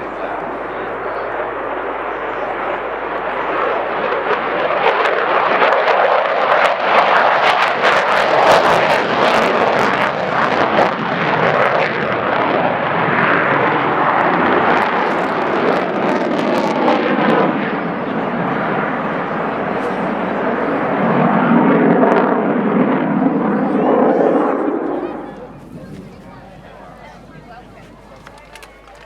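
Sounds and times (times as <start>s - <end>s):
jet engine in flight: 0.0s - 29.0s.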